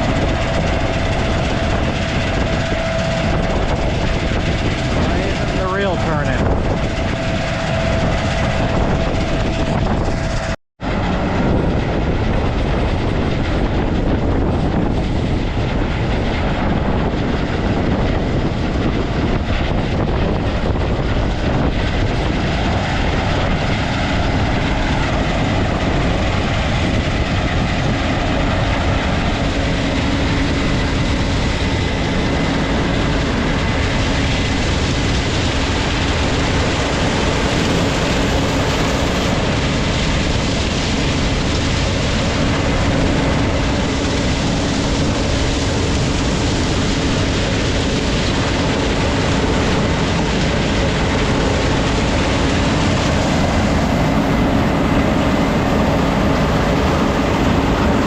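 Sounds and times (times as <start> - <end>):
heavy farm machinery running: 0.0 - 58.0.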